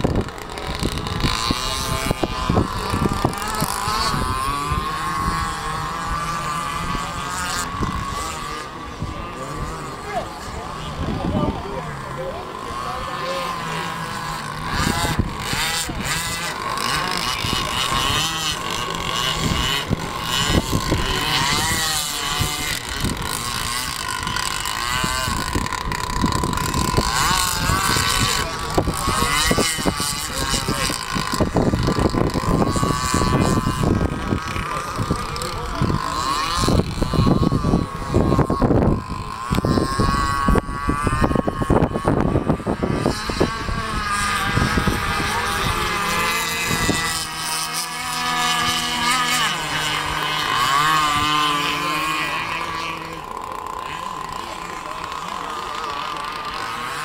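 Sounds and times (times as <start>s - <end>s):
low buffeting noise: 0.0s - 57.0s
toy speedboat motor whining: 0.0s - 57.0s.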